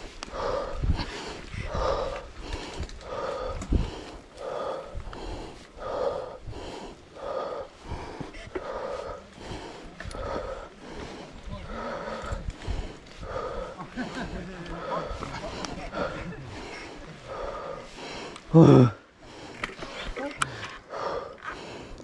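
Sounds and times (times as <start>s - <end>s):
bike rumbling on dirt trail: 0.0s - 20.2s
heavy rhythmic breathing: 0.0s - 22.0s.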